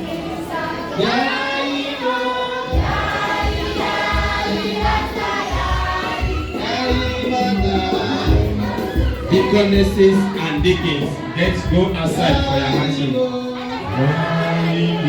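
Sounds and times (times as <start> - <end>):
choir singing: 0.0 - 15.0
low steady beat: 2.6 - 15.0.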